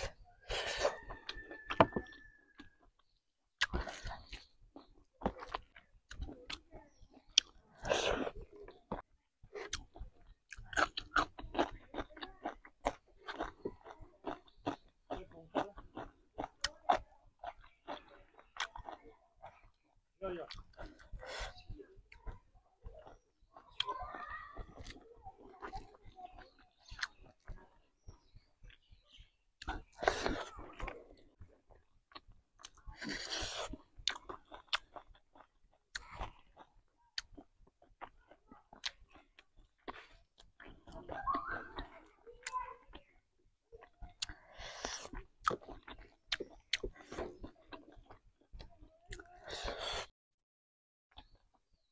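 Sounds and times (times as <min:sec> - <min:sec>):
wet crunchy chewing: 0:00.0 - 0:24.0, 0:24.6 - 0:43.2, 0:43.8 - 0:50.1.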